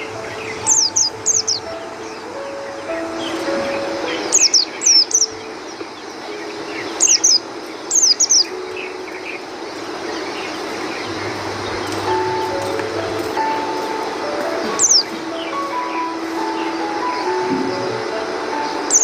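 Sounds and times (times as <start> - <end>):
birds chirping high: 0.0 - 19.0.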